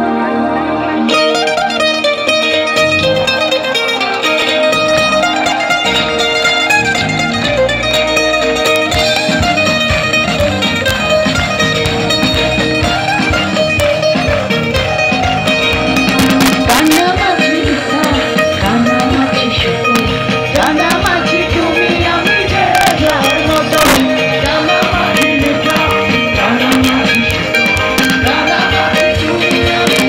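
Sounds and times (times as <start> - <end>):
live band with guitars: 0.0 - 30.0
steady drum beat: 4.6 - 30.0.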